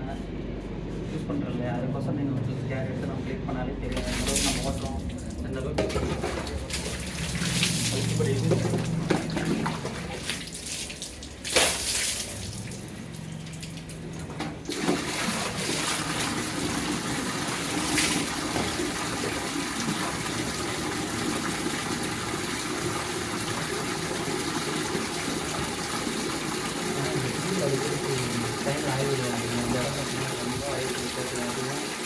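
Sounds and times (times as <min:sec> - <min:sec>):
water splashing on motorcycle: 0:03.9 - 0:32.0.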